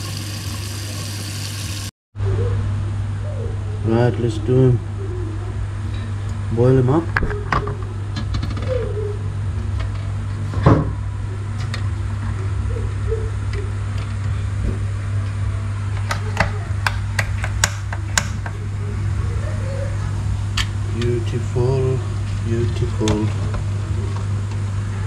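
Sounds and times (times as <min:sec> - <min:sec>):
steady low hum: 0:01.7 - 0:25.0.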